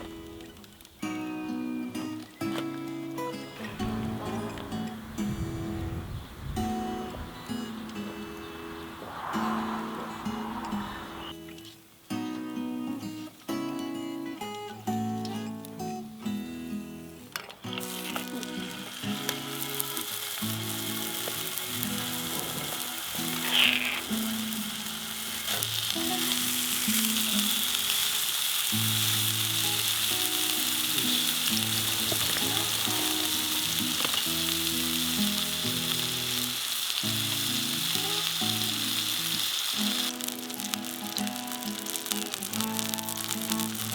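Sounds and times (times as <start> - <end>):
food sizzling: 0.0 - 11.6, 17.6 - 43.9.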